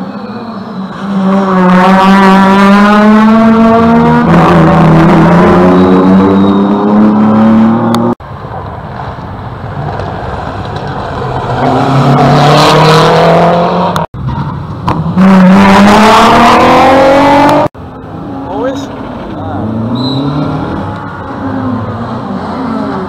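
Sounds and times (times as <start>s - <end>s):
rally car engines revving: 0.0s - 8.2s, 9.6s - 23.0s.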